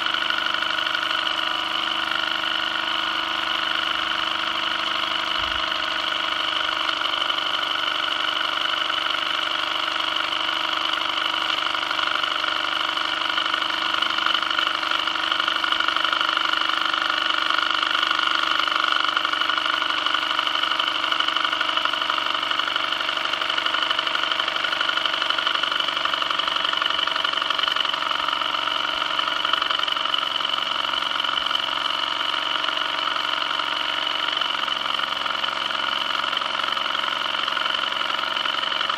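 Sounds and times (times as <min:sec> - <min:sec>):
toy steam engine running: 0:00.0 - 0:38.9.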